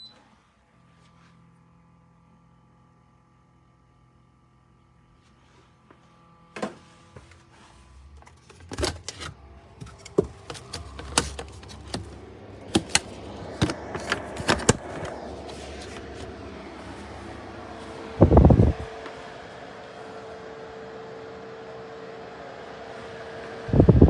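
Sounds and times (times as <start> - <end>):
air conditioner fan running: 0.0 - 24.0.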